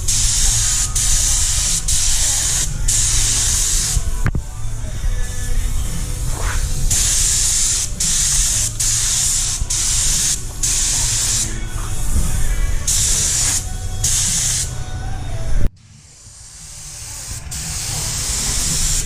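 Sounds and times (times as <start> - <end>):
paint spray gun hissing: 0.0 - 4.2, 5.2 - 14.9, 15.9 - 19.0
steady low rumble: 0.0 - 15.9.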